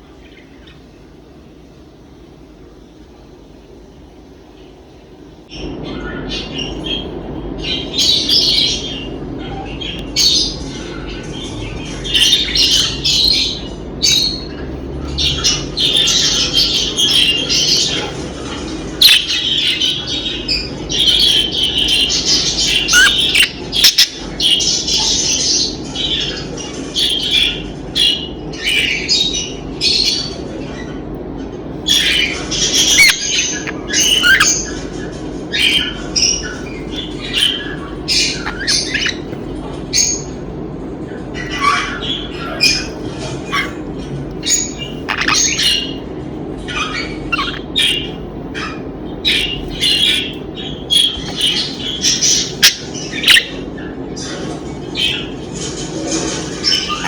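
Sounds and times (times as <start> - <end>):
birds squawking and chirping: 0.0 - 57.0
low background hum: 0.0 - 57.0.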